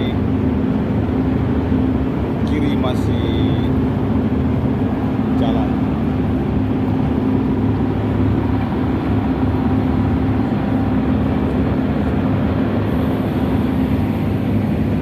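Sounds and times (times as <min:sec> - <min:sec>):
ship engine hum: 0:00.0 - 0:15.0.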